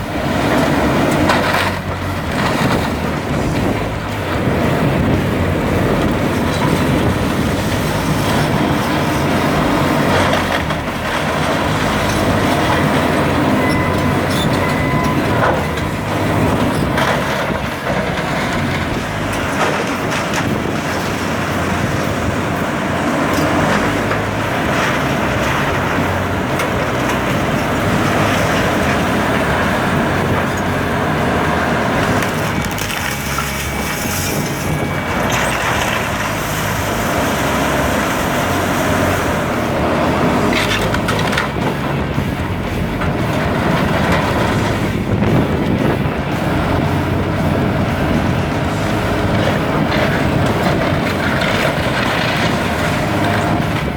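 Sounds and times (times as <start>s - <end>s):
building material crunching: 0.0s - 53.9s
demolition machinery running: 0.0s - 53.9s.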